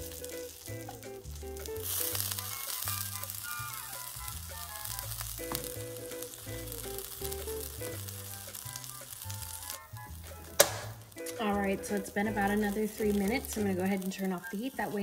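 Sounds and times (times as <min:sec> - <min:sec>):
background music with simple melody: 0:00.0 - 0:15.0
sandwiches sizzling in a pan: 0:00.0 - 0:15.0.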